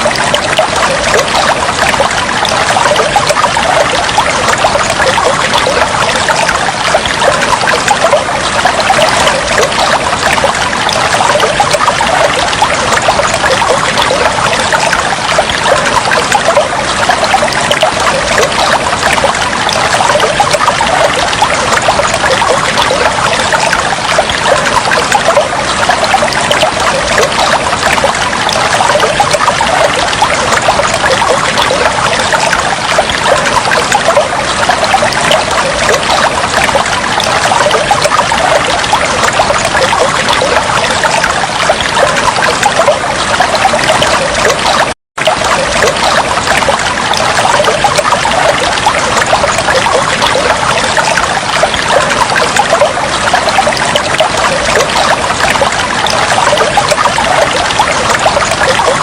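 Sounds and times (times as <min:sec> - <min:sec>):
water trickling and bubbling: 0:00.0 - 0:59.0.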